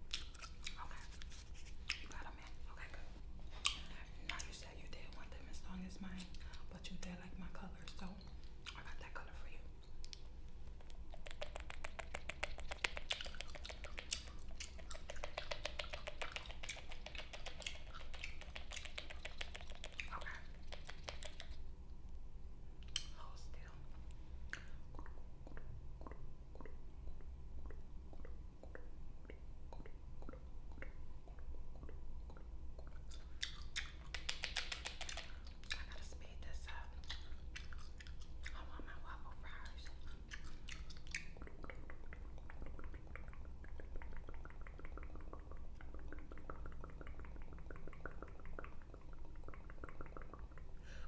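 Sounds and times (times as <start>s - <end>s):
gum chewing and mouth smacks: 0.0s - 5.5s, 7.7s - 22.1s, 22.8s - 51.0s.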